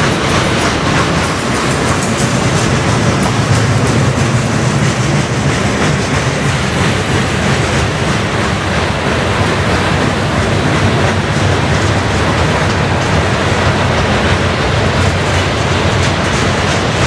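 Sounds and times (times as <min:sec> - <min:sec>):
clickety-clack over rail joints: 0:00.0 - 0:17.0
steel wheels rumbling on rail: 0:00.0 - 0:17.0.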